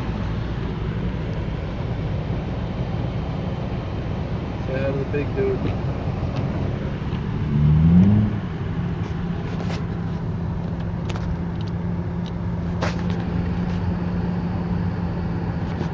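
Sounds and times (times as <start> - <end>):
car engine and road drone: 0.0 - 15.9.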